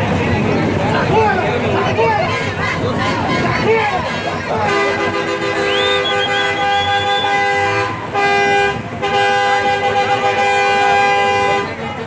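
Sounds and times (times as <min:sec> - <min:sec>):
truck air horns blasting: 0:01.9 - 0:12.0.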